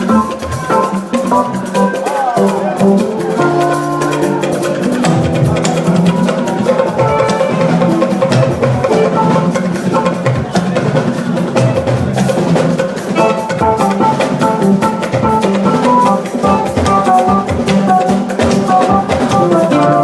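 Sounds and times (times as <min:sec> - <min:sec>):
church band music: 0:00.0 - 0:20.0
drum kit beat: 0:00.0 - 0:20.0
held instrument notes: 0:00.0 - 0:20.0.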